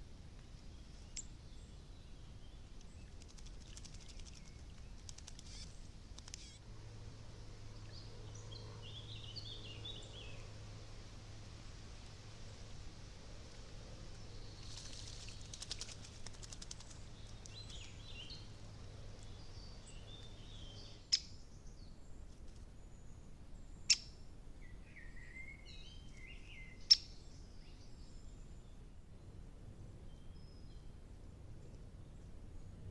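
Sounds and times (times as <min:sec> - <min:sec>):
songbirds calling and singing: 0:00.0 - 0:06.9, 0:07.6 - 0:10.7, 0:13.9 - 0:32.9.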